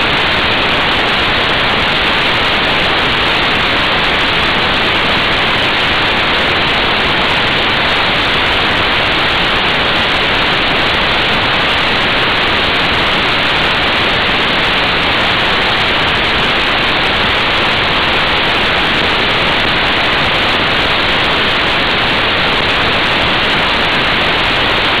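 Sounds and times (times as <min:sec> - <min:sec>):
wind rushing on camera microphone: 0:00.0 - 0:25.0.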